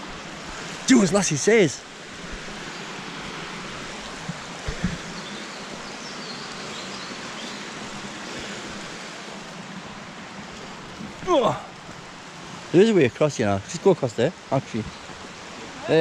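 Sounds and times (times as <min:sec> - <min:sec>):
stream water rushing over rocks: 0:00.0 - 0:16.0.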